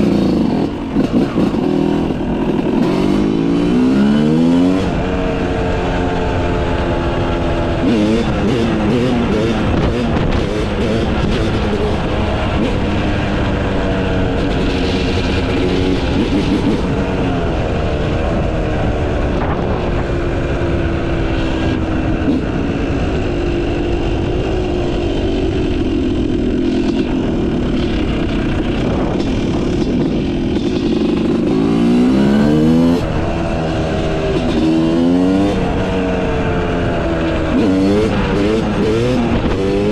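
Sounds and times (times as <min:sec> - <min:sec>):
motocross engine revving: 0:00.0 - 0:06.2, 0:06.8 - 0:22.7, 0:24.3 - 0:39.9.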